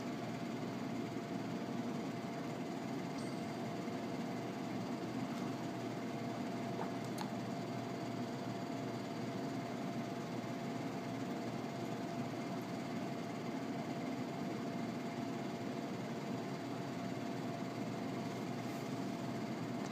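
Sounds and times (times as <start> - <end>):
machine hum with steady tone: 0.0 - 19.9.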